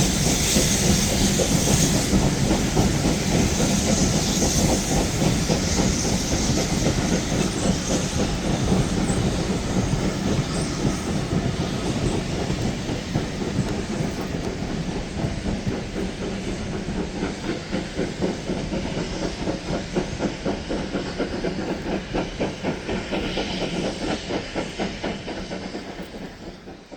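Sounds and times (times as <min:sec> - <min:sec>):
train clattering over rail joints: 0:00.0 - 0:26.9.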